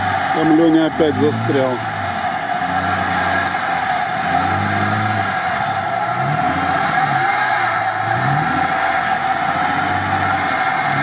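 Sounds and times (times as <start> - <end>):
suv engine revving: 0.0 - 11.0.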